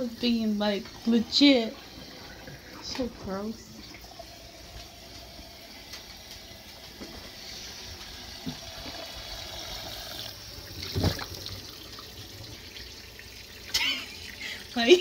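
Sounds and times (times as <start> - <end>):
faucet water splashing: 0.0 - 15.0.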